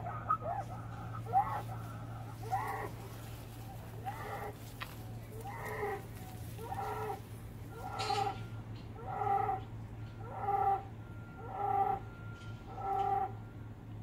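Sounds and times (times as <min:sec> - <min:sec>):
bull calling: 0:00.0 - 0:13.7.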